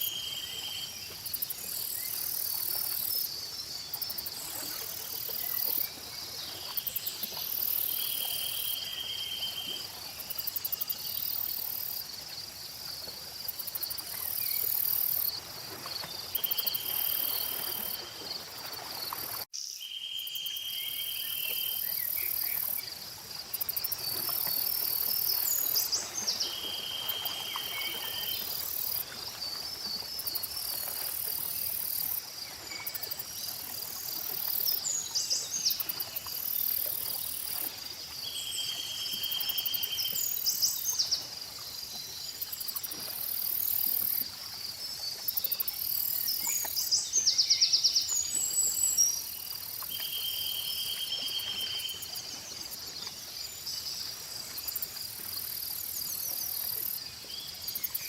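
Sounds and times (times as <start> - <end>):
insect trill: 0.0 - 12.7, 13.4 - 58.0
crickets chirring: 0.0 - 58.0.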